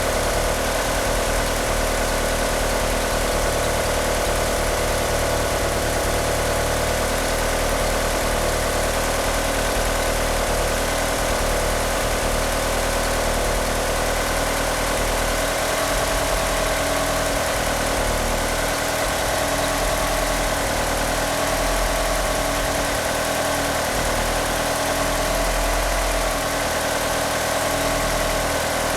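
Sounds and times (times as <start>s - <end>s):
rough engine idle: 0.0s - 28.9s.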